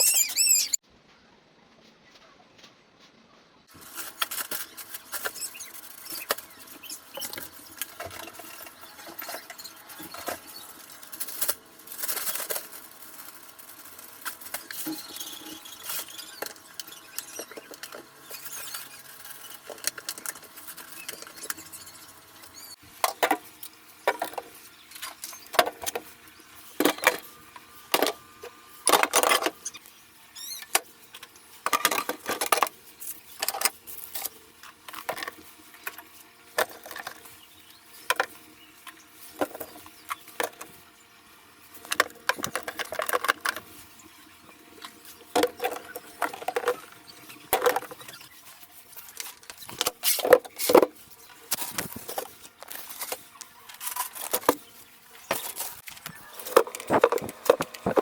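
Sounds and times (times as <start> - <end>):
groceries clicking and rustling: 3.7 - 40.9, 41.6 - 58.0.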